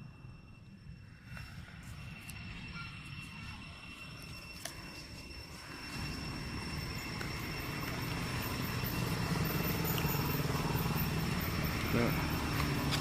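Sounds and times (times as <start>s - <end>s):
motor running with pulsing rumble: 0.0s - 13.0s.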